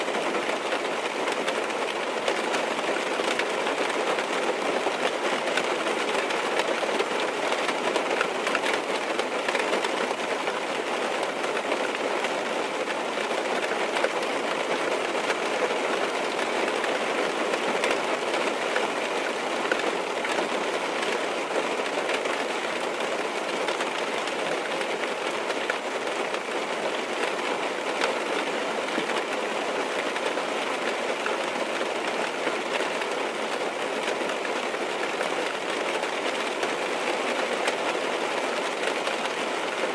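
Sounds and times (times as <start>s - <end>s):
rain on car roof from inside: 0.0s - 39.9s.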